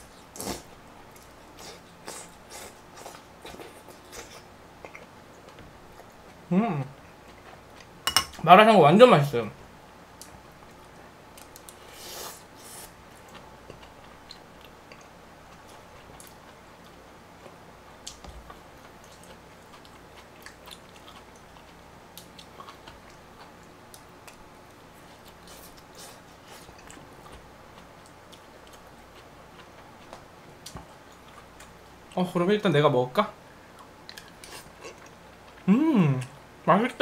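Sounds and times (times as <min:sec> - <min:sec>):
person chewing food: 0:00.1 - 0:08.1, 0:10.2 - 0:32.2, 0:33.7 - 0:36.4.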